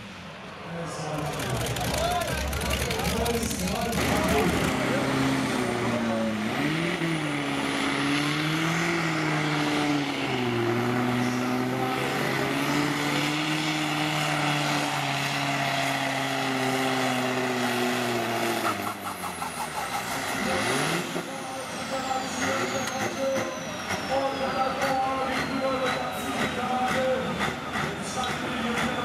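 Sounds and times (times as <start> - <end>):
pulling tractor engine under full load: 1.0 - 29.0.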